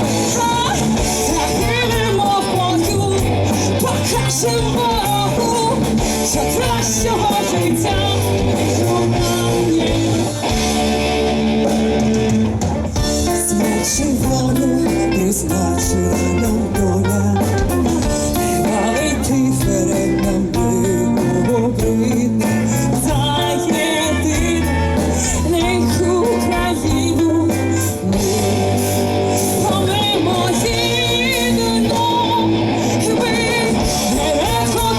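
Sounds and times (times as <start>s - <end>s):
electric guitar: 0.0s - 34.9s
hard rock band playing live: 0.0s - 34.9s.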